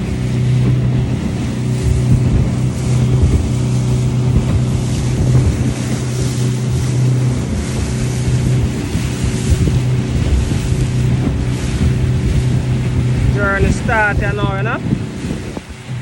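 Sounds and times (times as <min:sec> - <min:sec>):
boat engine humming: 0:00.0 - 0:16.0
water rushing: 0:00.0 - 0:16.0
wind on microphone: 0:00.0 - 0:16.0.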